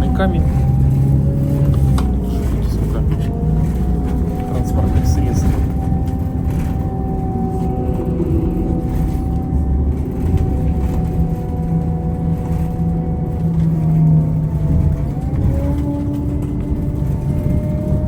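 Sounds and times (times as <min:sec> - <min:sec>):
bus engine rumble: 0:00.0 - 0:18.0
drivetrain whine: 0:00.0 - 0:18.0.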